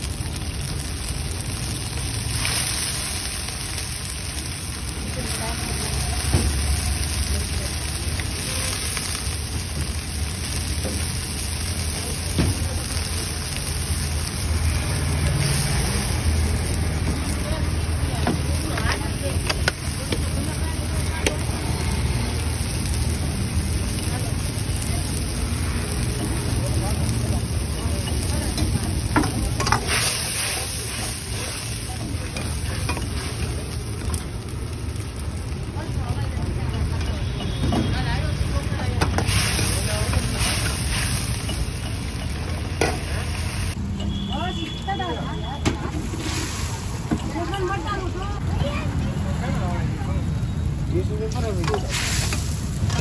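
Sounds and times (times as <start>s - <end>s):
sauce sizzling in a wok: 0.0s - 53.0s.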